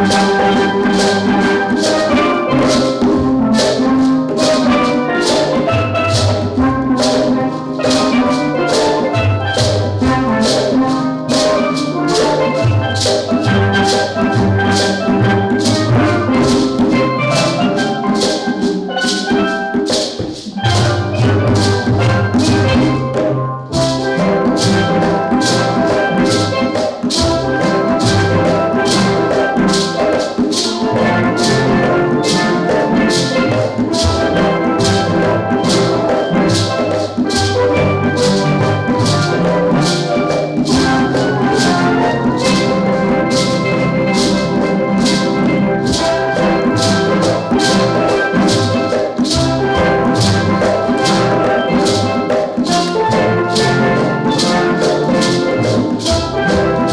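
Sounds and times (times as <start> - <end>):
percussion beat: 0.0 - 56.9
steel drum band playing: 0.0 - 56.9.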